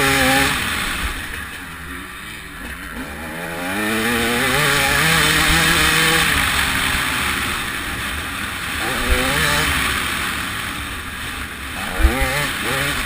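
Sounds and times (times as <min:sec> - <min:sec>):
two-stroke motocross engine revving: 0:00.0 - 0:13.0.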